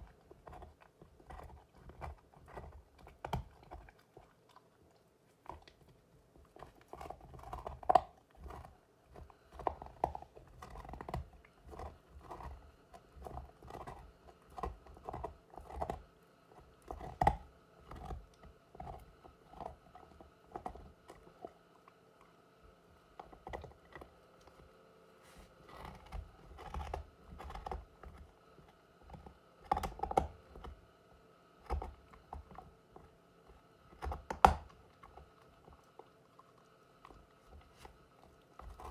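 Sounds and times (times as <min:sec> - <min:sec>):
dog gnawing on a chew: 0:00.0 - 0:38.9.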